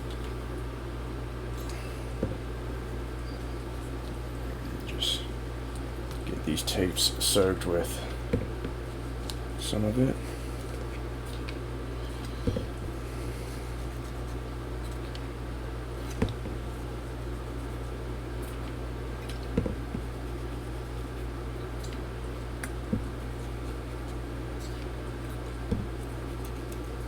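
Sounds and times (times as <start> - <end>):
low equipment hum: 0.0 - 27.0.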